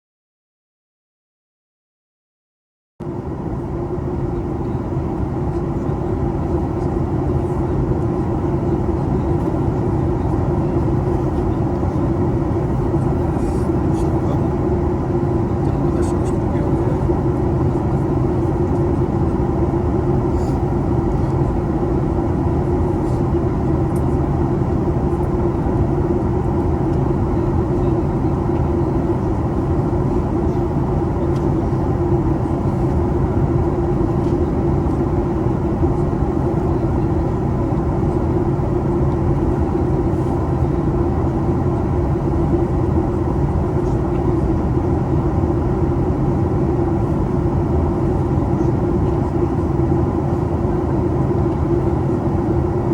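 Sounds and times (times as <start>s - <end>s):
airplane cabin engine rumble: 3.0s - 52.9s
constant hum: 3.0s - 52.9s.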